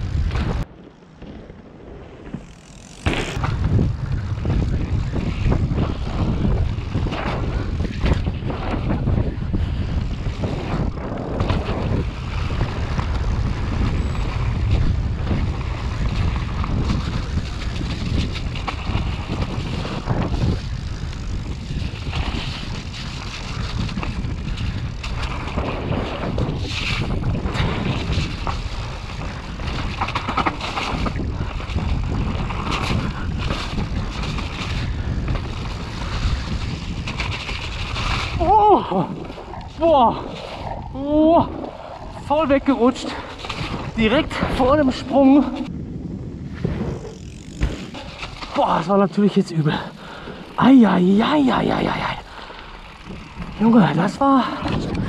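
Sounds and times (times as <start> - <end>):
bike rattling on dirt trail: 0.0 - 55.0
wind buffeting microphone: 0.0 - 55.0.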